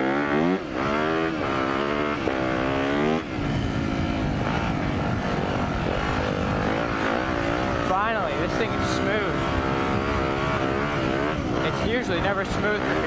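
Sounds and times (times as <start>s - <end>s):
motocross engine accelerating: 0.0s - 13.0s.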